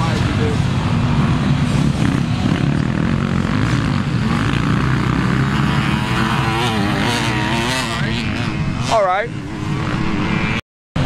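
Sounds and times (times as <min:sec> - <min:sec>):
dirt bike engines: 0:00.0 - 0:11.0.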